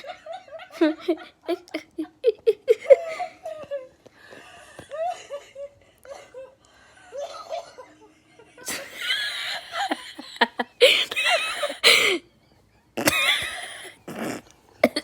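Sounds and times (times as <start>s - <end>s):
wheezing laughter: 0.0s - 15.0s.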